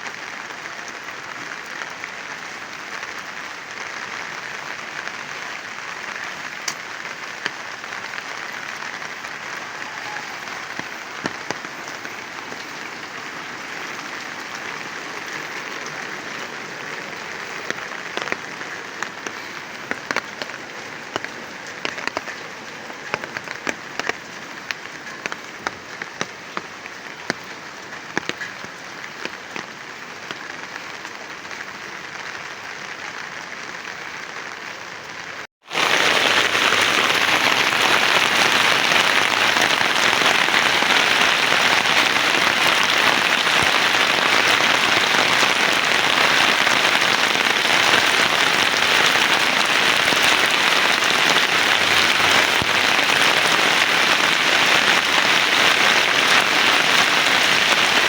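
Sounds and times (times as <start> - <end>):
heavy downpour: 0.0 - 58.0
rain falling: 0.0 - 58.0
sharp raindrop taps: 0.1 - 31.5, 35.6 - 58.0.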